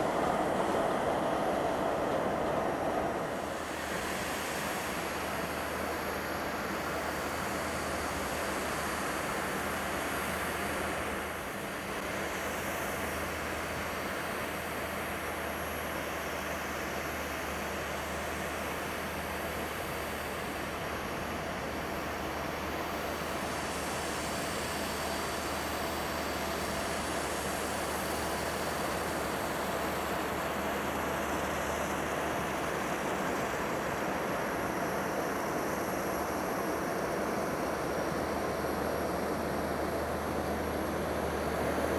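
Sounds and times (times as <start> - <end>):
faint engine whine: 0.0 - 41.9.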